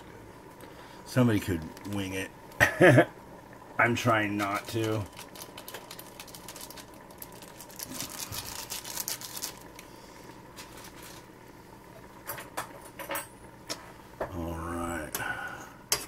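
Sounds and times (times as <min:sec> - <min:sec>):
boiling water pattering in pot: 0:00.0 - 0:16.0.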